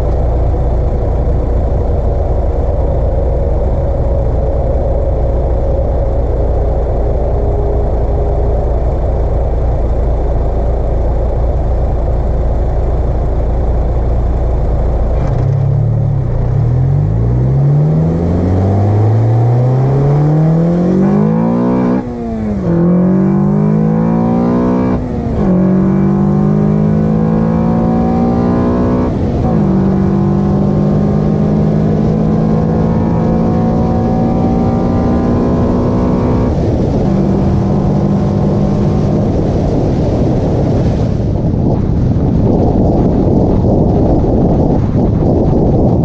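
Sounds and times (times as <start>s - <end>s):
car engine accelerating: 0.0s - 46.0s
road and wind noise: 0.0s - 46.0s.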